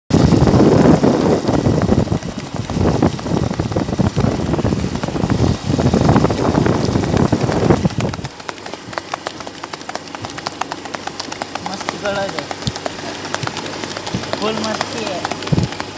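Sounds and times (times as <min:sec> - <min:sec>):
engine running: 0:00.1 - 0:15.9
horse hooves trotting on dirt: 0:00.1 - 0:15.9
wind buffeting microphone: 0:00.1 - 0:15.9.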